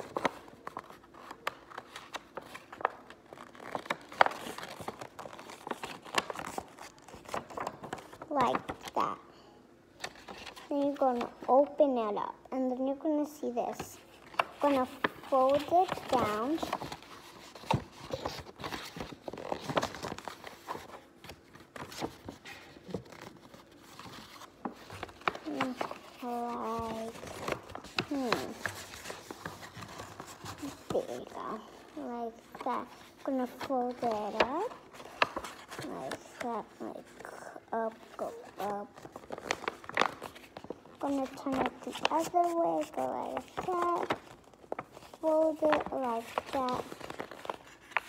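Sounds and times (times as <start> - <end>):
paper rustling and crackling: 0.0 - 9.2, 10.0 - 12.0, 13.7 - 48.0.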